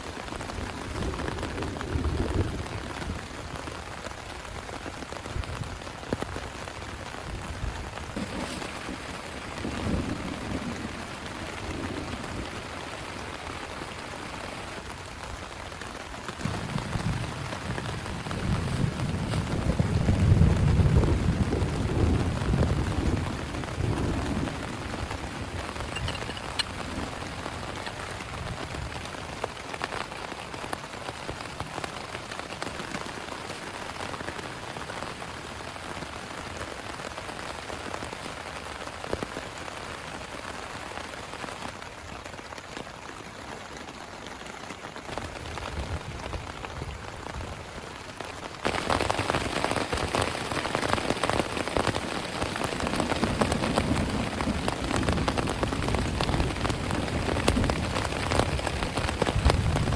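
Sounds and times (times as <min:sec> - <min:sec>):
heavy rain hissing: 0:00.0 - 0:59.9
raindrops pattering: 0:00.0 - 0:59.9.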